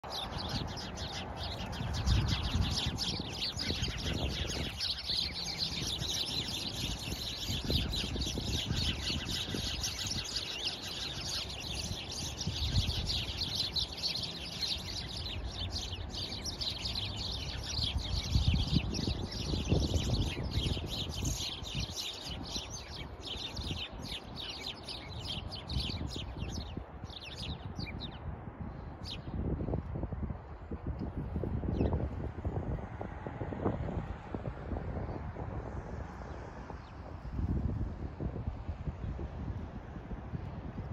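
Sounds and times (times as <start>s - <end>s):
flock of birds chirping: 0.0s - 29.6s, 30.8s - 33.0s, 33.6s - 40.9s.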